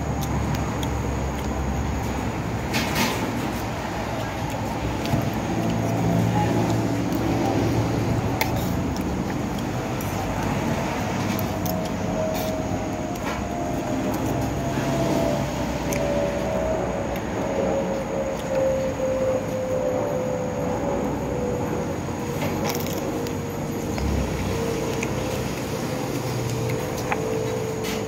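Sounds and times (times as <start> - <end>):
road noise: 0.0 - 28.0
vehicle engine drone: 0.0 - 28.0.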